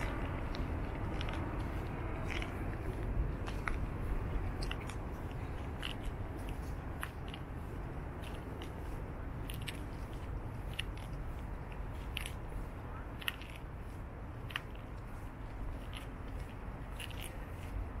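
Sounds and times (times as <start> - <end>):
low city rumble: 0.0 - 18.0.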